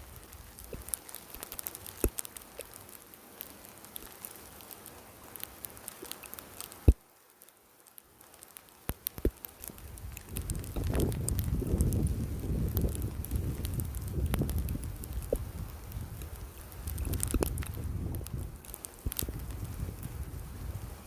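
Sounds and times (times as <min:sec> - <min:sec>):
graupel pellets pattering: 0:00.0 - 0:20.4.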